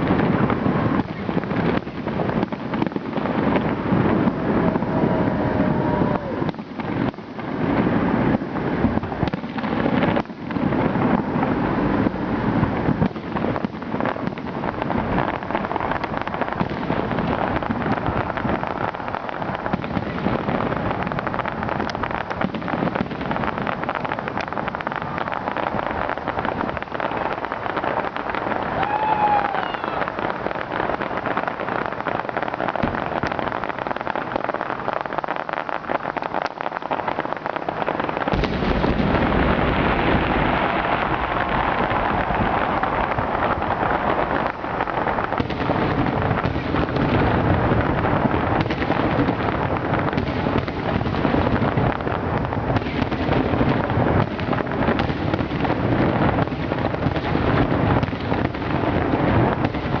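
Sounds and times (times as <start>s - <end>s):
fireworks booms: 0.0s - 60.0s
fireworks crackling and popping: 0.0s - 60.0s.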